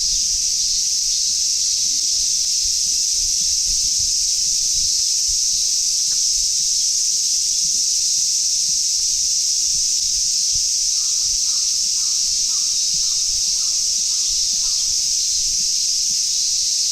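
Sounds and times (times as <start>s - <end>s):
cicadas droning: 0.0s - 16.9s.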